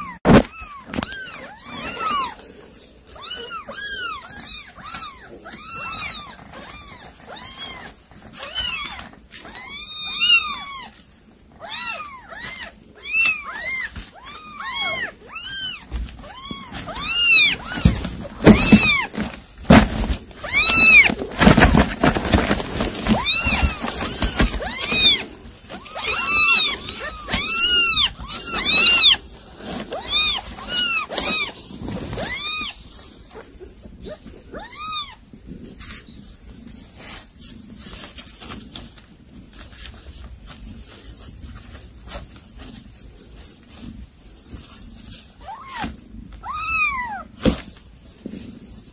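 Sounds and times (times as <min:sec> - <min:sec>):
cats meowing: 0:00.0 - 0:36.3, 0:43.8 - 0:48.4
scuffling and rustling: 0:00.0 - 0:48.9.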